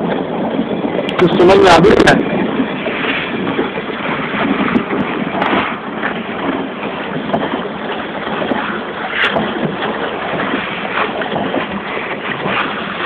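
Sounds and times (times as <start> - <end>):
water washing around boat: 0.0 - 13.0
wind rushing over microphone: 0.0 - 13.0.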